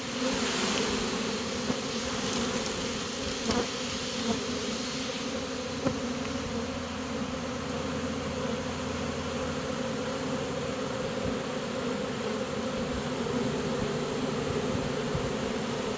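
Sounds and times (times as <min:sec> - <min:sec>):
bees buzzing: 0:00.0 - 0:15.9.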